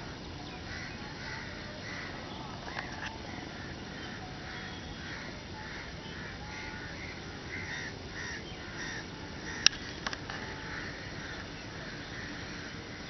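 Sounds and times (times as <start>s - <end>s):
birds harsh calls: 0.0s - 13.0s.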